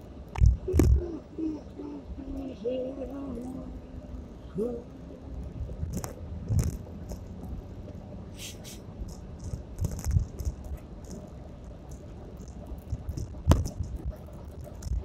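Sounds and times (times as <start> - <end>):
car cabin rumble: 0.0 - 8.3, 8.9 - 15.0.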